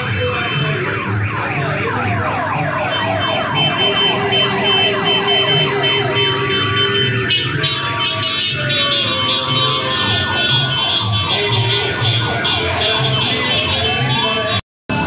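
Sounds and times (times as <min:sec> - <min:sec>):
steady high siren tone: 0:00.4 - 0:14.6.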